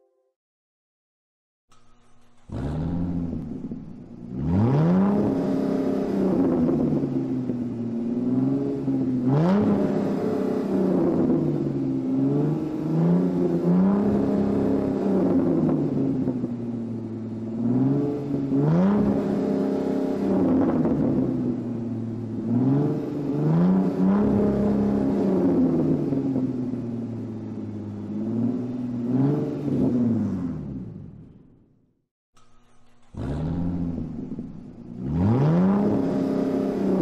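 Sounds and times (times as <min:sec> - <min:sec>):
car engine revving: 0:02.3 - 0:31.6, 0:32.8 - 0:37.0.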